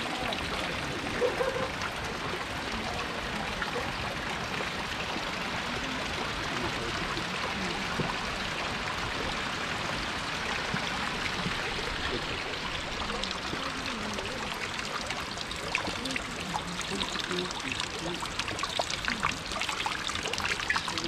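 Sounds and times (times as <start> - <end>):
running water splashing: 0.0 - 21.0
waterfall rushing: 0.0 - 21.0.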